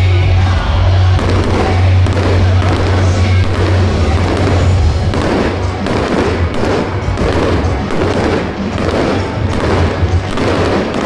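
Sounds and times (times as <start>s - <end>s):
loud music with heavy bass: 0.0s - 11.0s
fireworks bursting: 1.1s - 11.0s.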